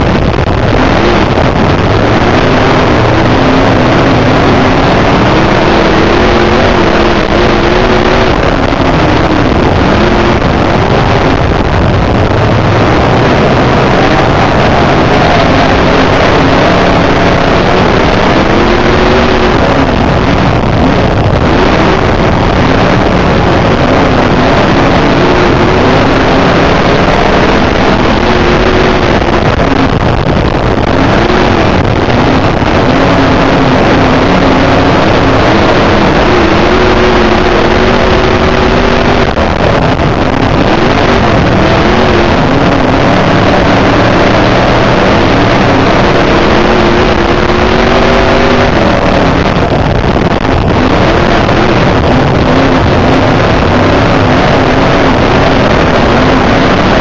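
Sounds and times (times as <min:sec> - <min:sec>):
racing car engine running hard: 0:00.0 - 0:57.0
wind rush over microphone: 0:00.0 - 0:57.0.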